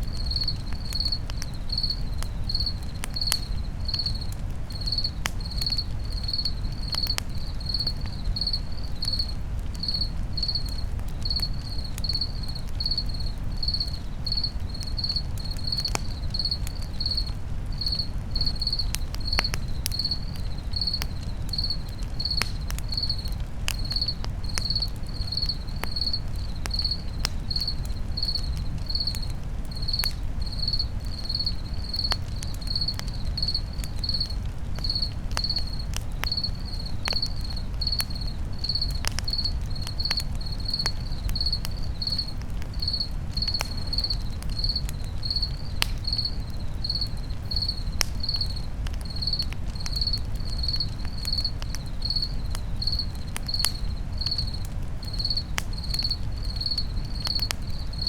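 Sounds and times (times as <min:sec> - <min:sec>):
campfire crackling and popping: 0:00.0 - 0:58.0
cricket chirping: 0:00.0 - 0:58.0.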